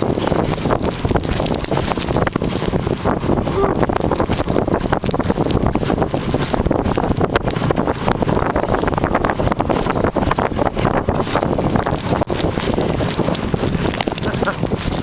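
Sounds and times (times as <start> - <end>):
sled scraping over snow: 0.0 - 15.0
wind rushing over microphone: 0.0 - 15.0.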